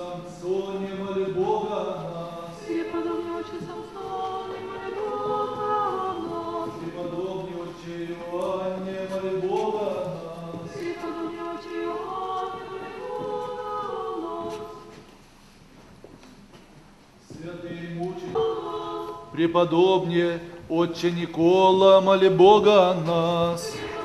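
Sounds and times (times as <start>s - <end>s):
choir chanting: 0.0s - 15.0s, 17.4s - 24.0s.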